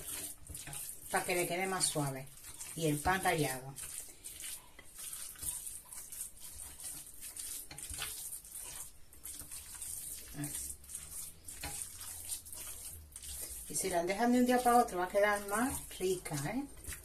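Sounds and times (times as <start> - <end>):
meat mixture being mixed in bowl: 0.0 - 17.0.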